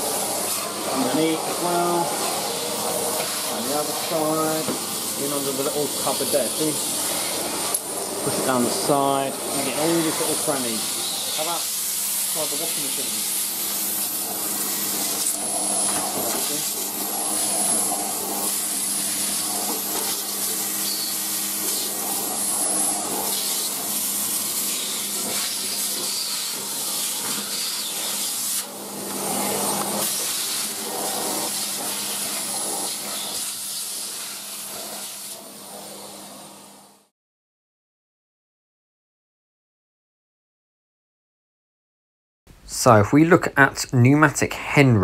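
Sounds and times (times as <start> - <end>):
vacuum cleaner running: 0.0 - 37.1.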